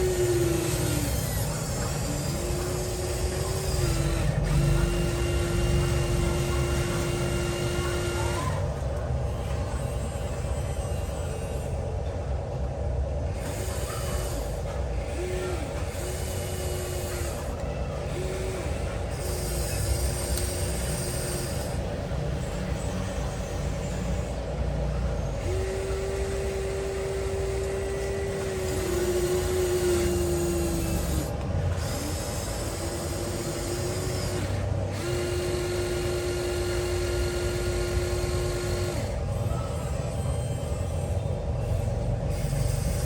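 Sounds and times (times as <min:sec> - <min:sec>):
small electric motors whining: 0:00.0 - 0:12.5, 0:13.3 - 0:43.0.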